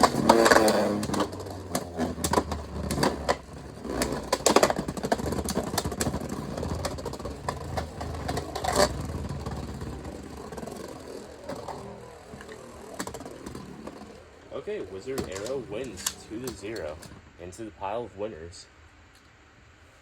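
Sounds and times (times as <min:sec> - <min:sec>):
spinning tops clacking: 0:00.0 - 0:17.1
spinning tops whirring: 0:00.0 - 0:17.4.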